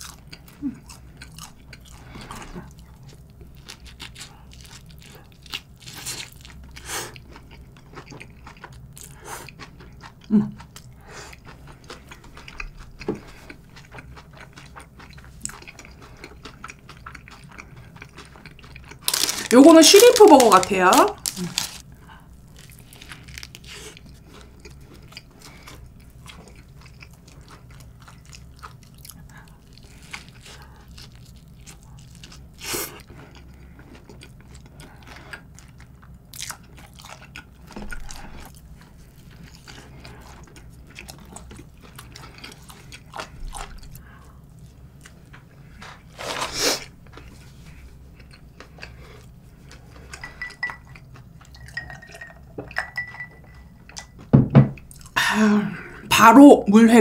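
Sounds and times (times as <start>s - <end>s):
chewing with crunches: 0.0s - 52.8s, 53.4s - 55.2s.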